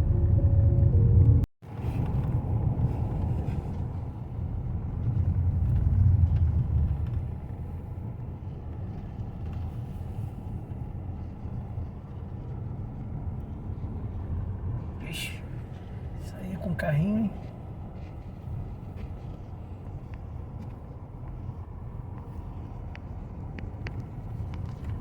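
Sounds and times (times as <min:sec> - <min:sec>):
car engine rumble: 0:00.0 - 0:25.0
road noise: 0:00.0 - 0:25.0.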